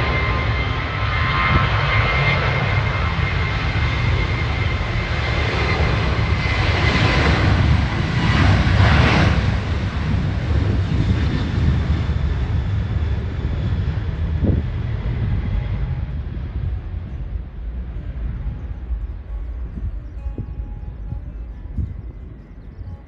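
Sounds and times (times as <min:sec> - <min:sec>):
jet engines roaring: 0:00.0 - 0:22.8.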